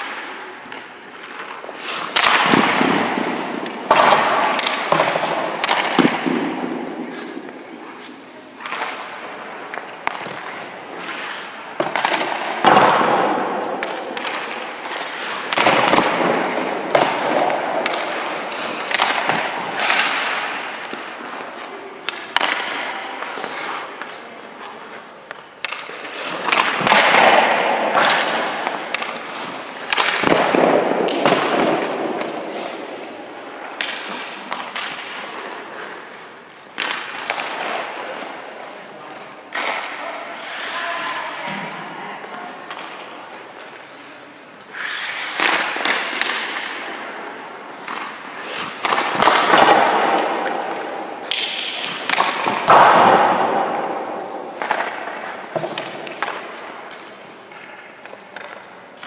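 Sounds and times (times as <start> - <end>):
skate blades scraping ice: 0.0 - 41.2, 42.5 - 59.0.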